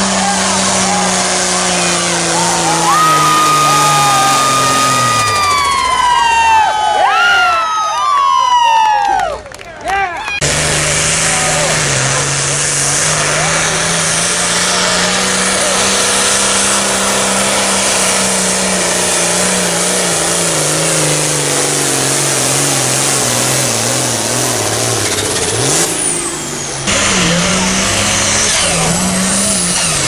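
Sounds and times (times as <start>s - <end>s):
pulling tractor engine running hard: 0.0s - 7.0s, 10.4s - 30.0s.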